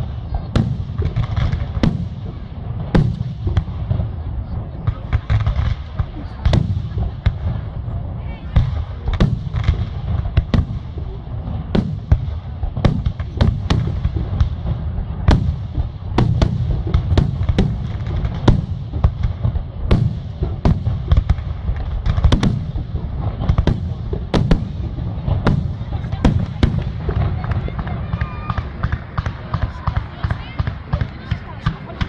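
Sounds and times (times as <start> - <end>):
firework bangs and cracks: 0.0 - 32.0
low rumble of explosions: 0.0 - 32.0.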